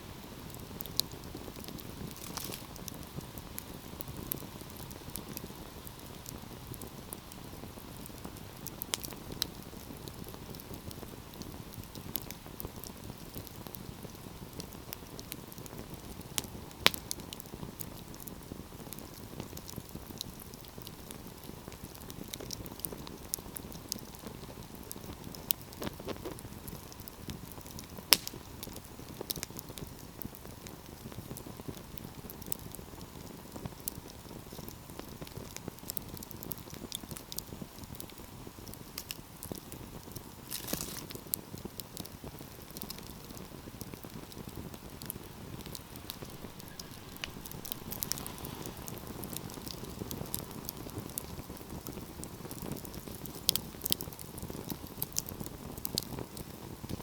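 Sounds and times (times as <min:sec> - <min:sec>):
fire crackles and pops: 0:00.0 - 0:57.0
wood fire rumble: 0:00.0 - 0:57.0.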